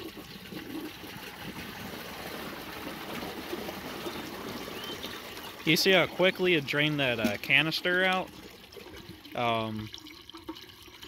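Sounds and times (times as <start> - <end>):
toilet flushing: 0.0 - 11.0.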